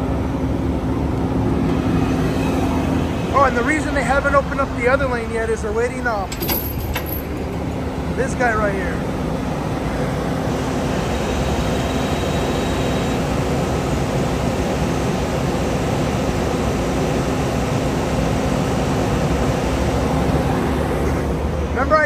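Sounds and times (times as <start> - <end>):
diesel trucks idling: 0.0 - 22.0.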